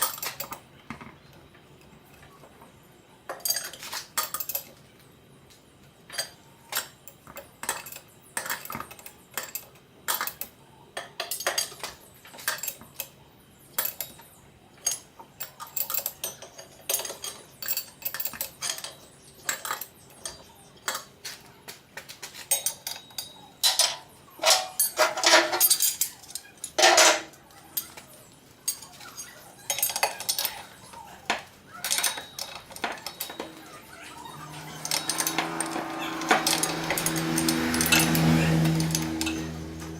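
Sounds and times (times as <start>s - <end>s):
metal tools clinking and clanking: 0.0s - 2.6s, 3.3s - 4.9s, 6.1s - 39.9s.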